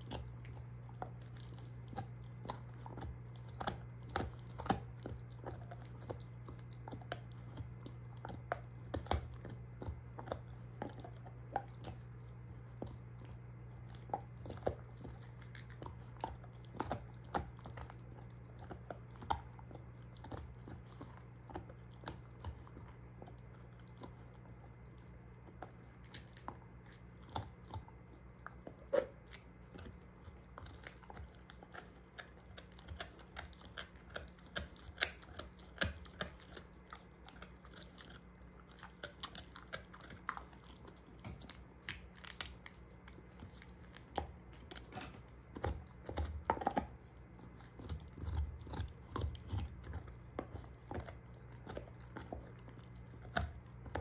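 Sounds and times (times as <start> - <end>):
dog chewing a bone: 0.0 - 54.0
teeth clicking on bone: 0.0 - 54.0.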